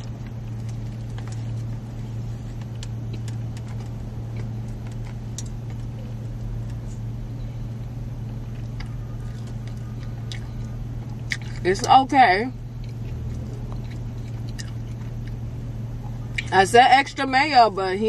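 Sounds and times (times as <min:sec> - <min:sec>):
person chewing a sandwich: 0:00.0 - 0:11.7, 0:12.6 - 0:16.5
low hum inside a car: 0:00.0 - 0:18.0.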